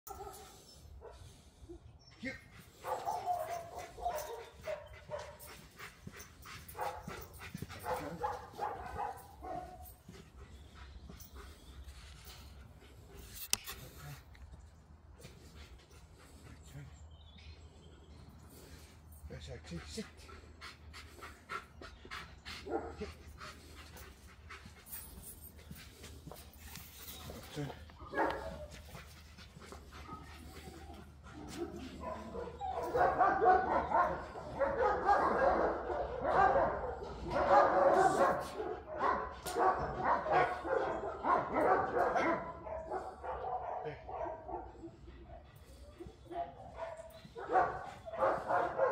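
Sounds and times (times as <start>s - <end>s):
dog panting: 1.0s - 14.4s, 15.2s - 48.9s.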